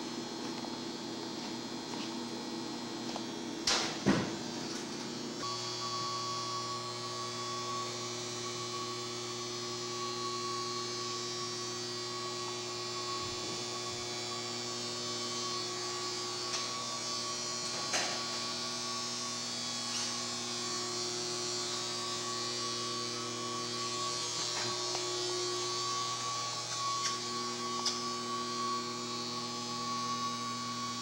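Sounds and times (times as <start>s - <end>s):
electrical hum with whine: 0.0s - 31.0s.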